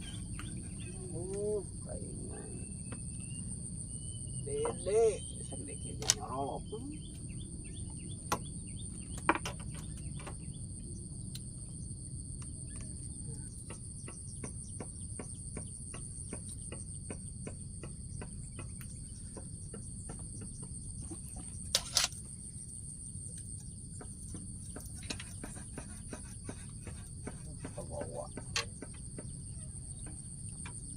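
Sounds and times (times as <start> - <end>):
insects trilling: 0.0 - 30.9.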